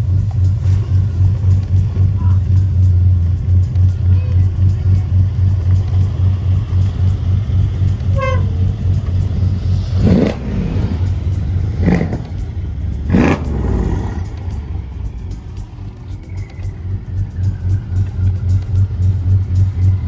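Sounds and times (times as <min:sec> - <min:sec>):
background music with bass: 0:00.0 - 0:20.0
car engines revving: 0:00.0 - 0:20.0.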